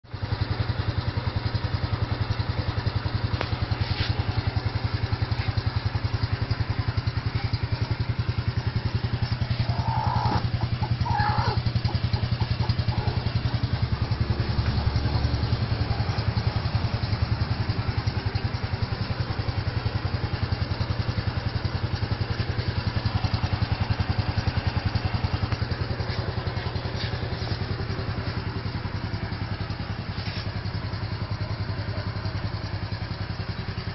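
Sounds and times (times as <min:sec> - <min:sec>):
small engine running: 0:00.2 - 0:33.9.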